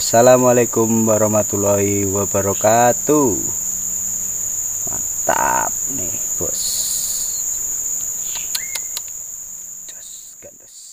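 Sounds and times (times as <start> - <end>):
insects droning: 0.0 - 10.9.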